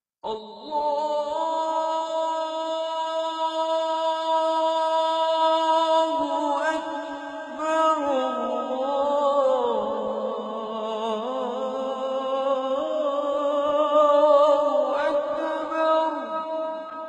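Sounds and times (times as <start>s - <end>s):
wordless a cappella singing: 0.2s - 17.0s.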